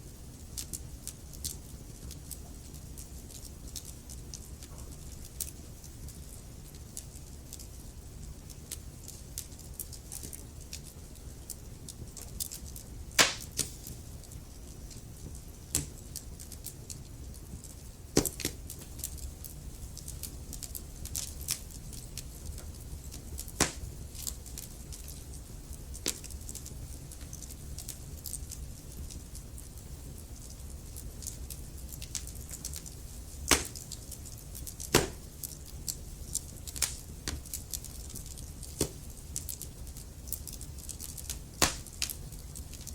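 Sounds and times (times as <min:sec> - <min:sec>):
low rumble of flame: 0:00.0 - 0:42.9
burning logs popping: 0:00.1 - 0:42.9.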